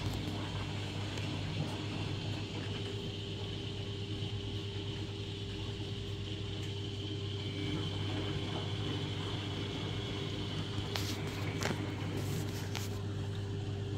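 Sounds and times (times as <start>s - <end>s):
washing machine humming: 0.0s - 13.9s.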